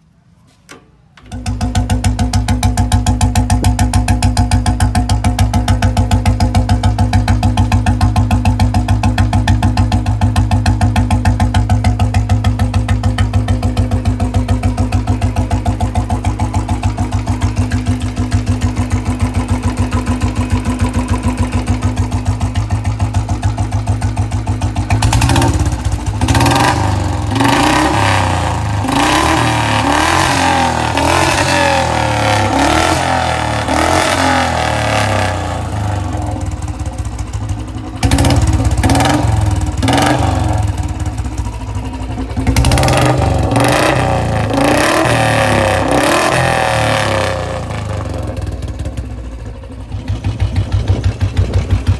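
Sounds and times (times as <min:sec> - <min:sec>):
motorcycle engine idling and revving: 0:01.2 - 0:51.9.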